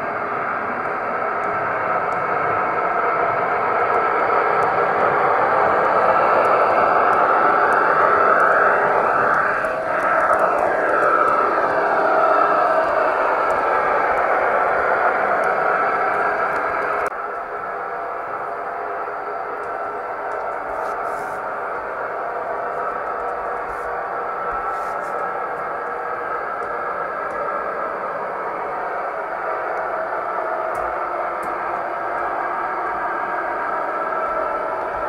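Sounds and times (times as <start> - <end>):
model railcar whirring on track: 0.0 - 35.0.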